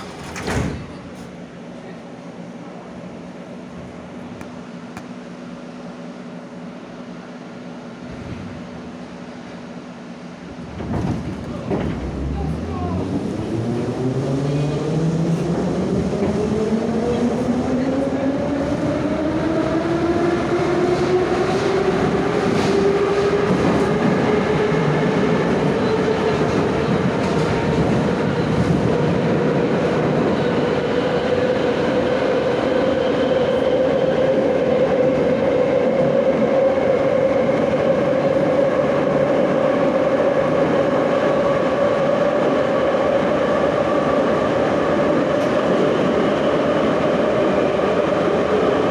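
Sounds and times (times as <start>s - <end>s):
subway motor whine: 0.0s - 48.9s
wheels rumbling on rail: 0.0s - 48.9s.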